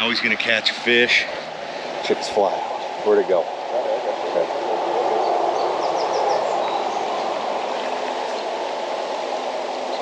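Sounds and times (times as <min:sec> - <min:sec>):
river rushing over rocks: 0:01.3 - 0:10.0.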